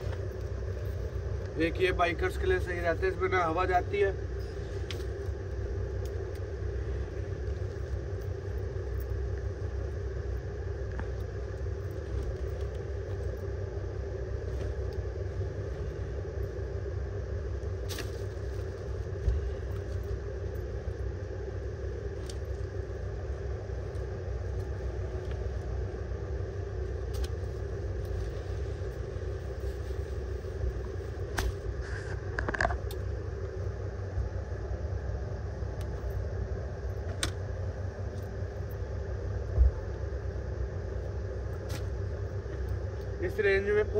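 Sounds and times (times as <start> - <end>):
constant hum: 0.0 - 43.9
low background rumble: 0.0 - 43.9.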